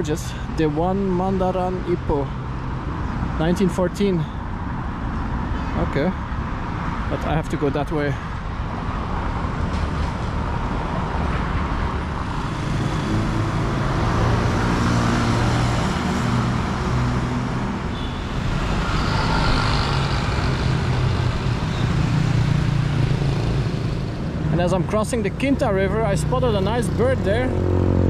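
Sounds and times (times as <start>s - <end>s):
cars and motorbikes passing: 0.0s - 28.0s.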